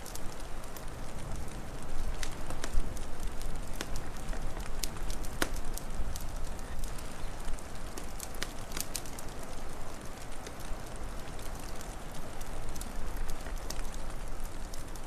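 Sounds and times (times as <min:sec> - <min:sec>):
rushing hiss and low rumble: 0:00.0 - 0:15.0
wood fire crackling and popping: 0:00.0 - 0:15.0.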